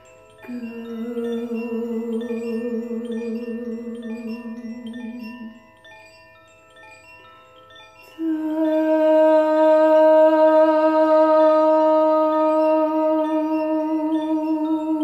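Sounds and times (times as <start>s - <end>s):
sustained low ringing tone: 0.0s - 6.1s, 8.0s - 15.0s
wind chime tinkling: 0.0s - 15.0s.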